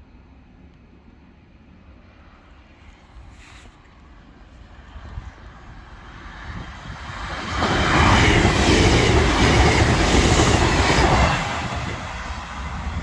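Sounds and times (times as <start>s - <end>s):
diesel train engine passing: 0.0s - 13.0s
wheels on rail: 1.7s - 13.0s.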